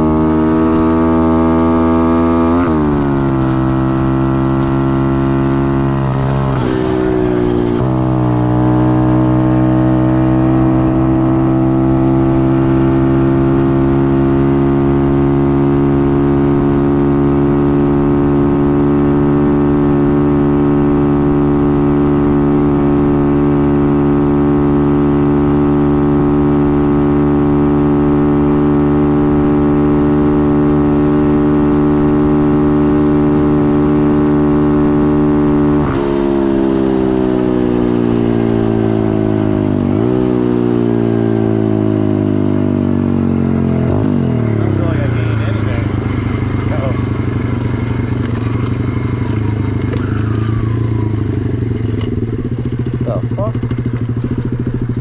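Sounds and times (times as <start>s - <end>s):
pit bike engine revving high: 0.0s - 55.0s.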